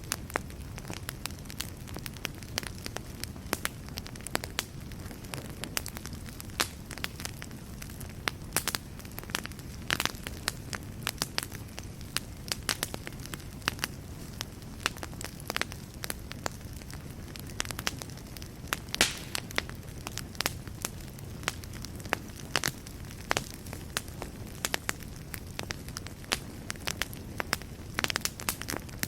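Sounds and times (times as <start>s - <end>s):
fire rumbling: 0.0s - 29.0s
wood crackling and popping: 0.0s - 29.0s.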